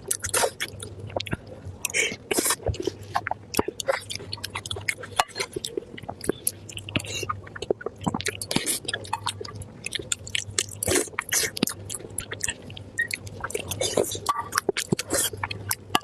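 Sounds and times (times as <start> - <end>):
chewing food: 0.0 - 16.0
faint low hum: 0.0 - 16.0.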